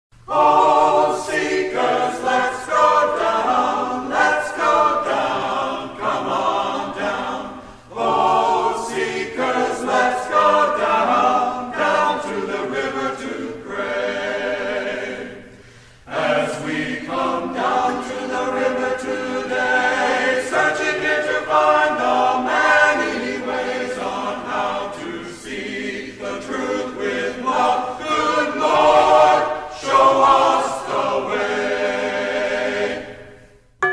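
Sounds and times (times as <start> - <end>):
choir singing: 0.2 - 33.9.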